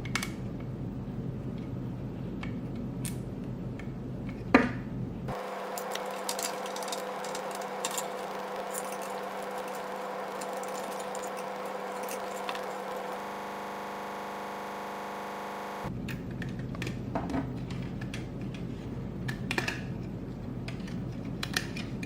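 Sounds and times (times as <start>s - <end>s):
steady hum: 0.0s - 19.3s.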